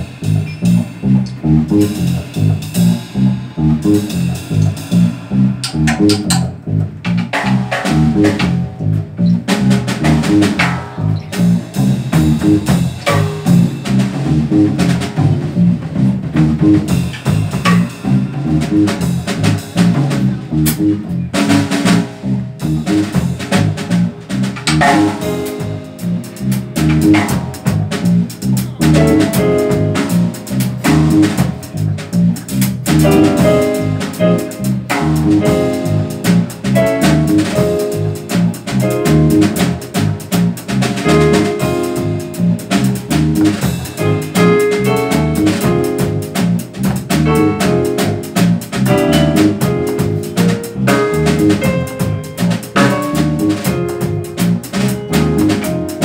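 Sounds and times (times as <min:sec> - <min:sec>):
bass: 0:00.0 - 0:56.0
busy drumming: 0:00.0 - 0:56.0
piano chords: 0:00.0 - 0:56.0.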